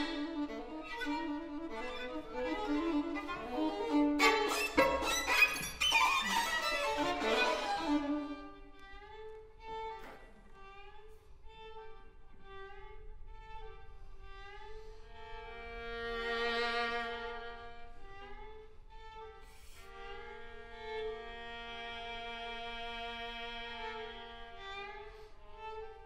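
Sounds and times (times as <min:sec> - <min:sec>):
violin duet: 0:00.0 - 0:26.0.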